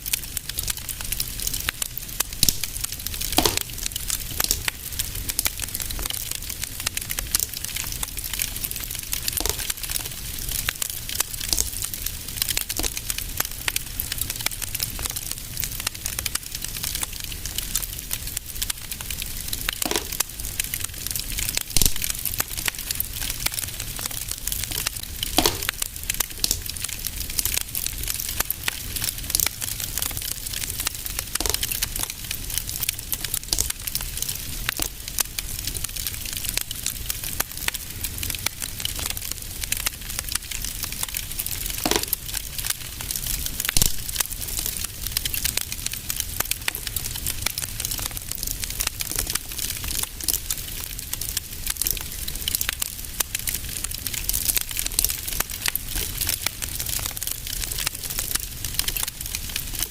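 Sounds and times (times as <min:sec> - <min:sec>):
loud fire pops: 0:00.0 - 0:52.8
wood fire crackling: 0:00.0 - 0:59.9.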